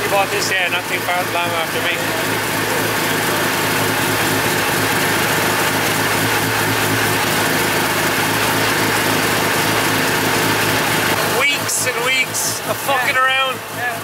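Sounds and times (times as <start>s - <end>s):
rotary engine idling: 0.0s - 14.0s.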